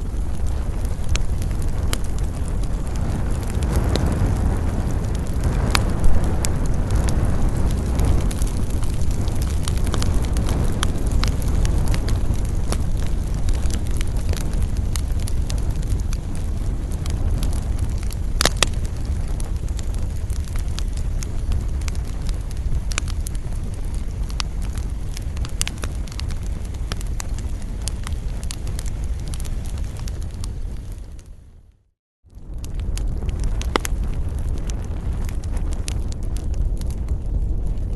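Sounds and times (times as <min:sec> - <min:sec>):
fire crackling and popping: 0:00.0 - 0:37.9
low steady rumble: 0:00.0 - 0:37.9.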